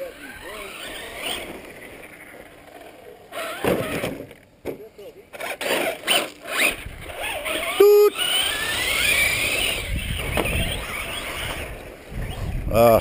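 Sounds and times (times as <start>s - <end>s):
toy truck motor whining: 0.0s - 4.4s, 5.3s - 13.0s
tyres on dirt: 0.0s - 13.0s.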